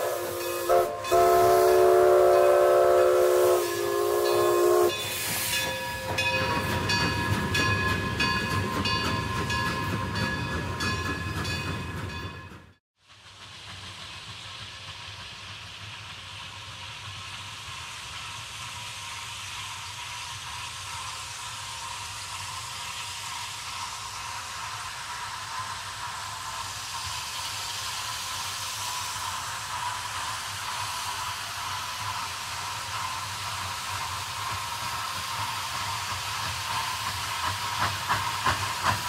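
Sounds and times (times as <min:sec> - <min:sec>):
steam hissing: 0:00.0 - 0:10.2, 0:13.0 - 0:39.0
steam locomotive: 0:00.0 - 0:39.0.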